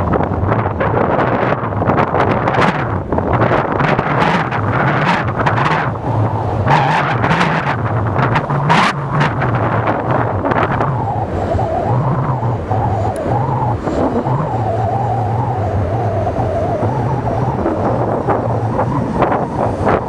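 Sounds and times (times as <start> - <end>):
diesel engine running: 0.0 - 20.0
wind buffeting microphone: 0.0 - 20.0.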